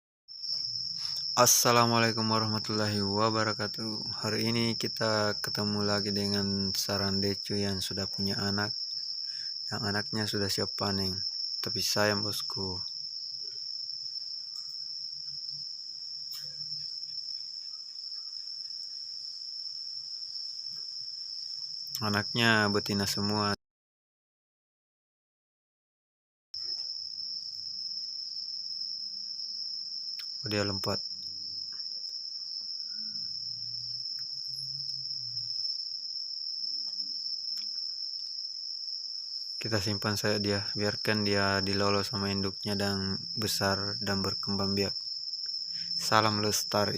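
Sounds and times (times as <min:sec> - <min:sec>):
cricket trilling: 0:00.3 - 0:23.6, 0:26.6 - 0:46.9.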